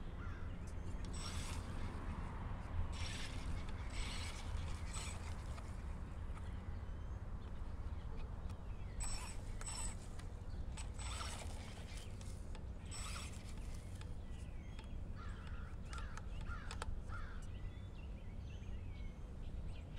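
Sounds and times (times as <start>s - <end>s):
rc truck drivetrain whir: 0.0s - 17.5s.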